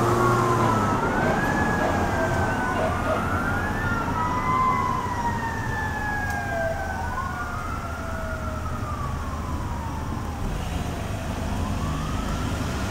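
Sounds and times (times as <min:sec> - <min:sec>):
fire truck sirens wailing: 0:00.0 - 0:12.9.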